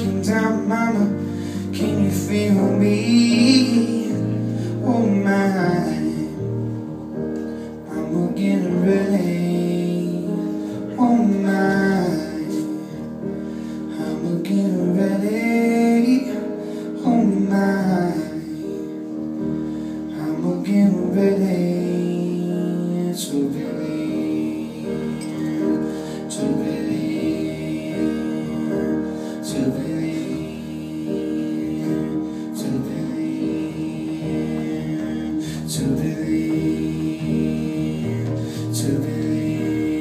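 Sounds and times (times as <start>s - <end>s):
person singing: 0.0s - 40.0s
piano: 0.0s - 40.0s.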